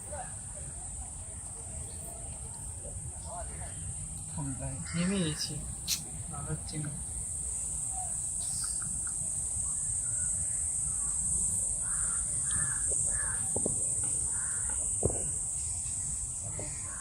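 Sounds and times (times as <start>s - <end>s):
birds calling: 3.3s - 17.0s.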